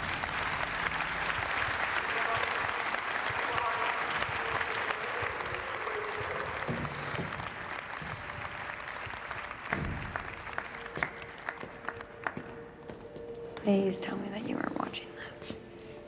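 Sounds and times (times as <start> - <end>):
people applauding: 0.0 - 12.9.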